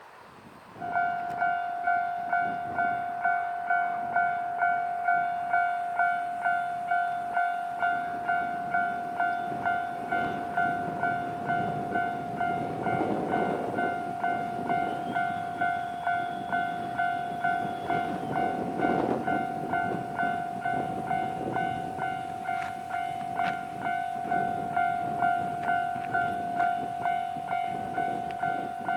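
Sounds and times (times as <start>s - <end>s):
rumble of approaching diesel train: 0.0s - 28.9s
level-crossing warning bell ringing: 0.8s - 28.9s.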